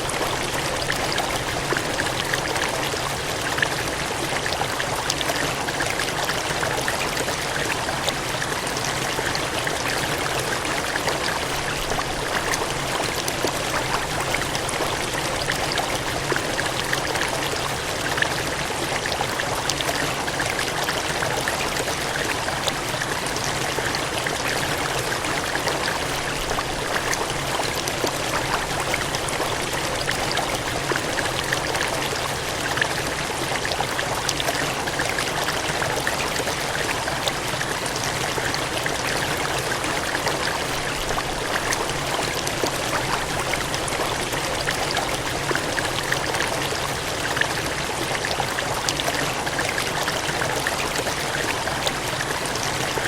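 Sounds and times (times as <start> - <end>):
gushing water: 0.0 - 53.0.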